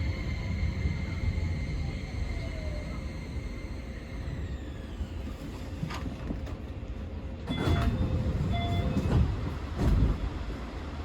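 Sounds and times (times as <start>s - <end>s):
electric train low rumble: 0.0s - 11.0s.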